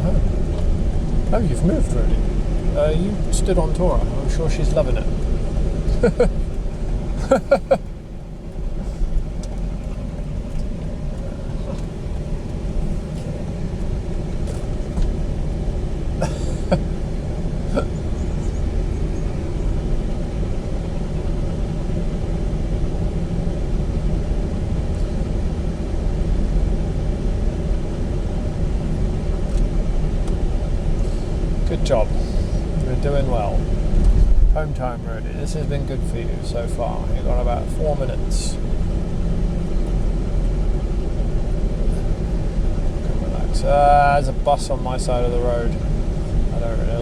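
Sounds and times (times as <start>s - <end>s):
road and engine rumble in car: 0.0s - 47.0s.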